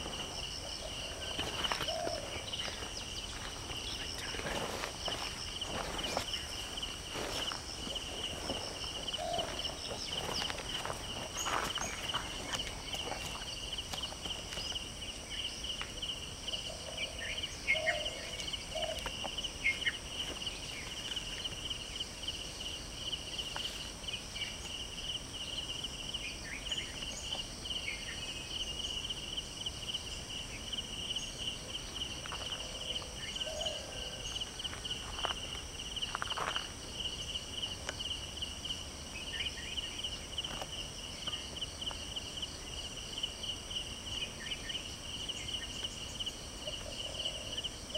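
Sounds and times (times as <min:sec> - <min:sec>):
insect chorus trilling: 0:00.0 - 0:47.9.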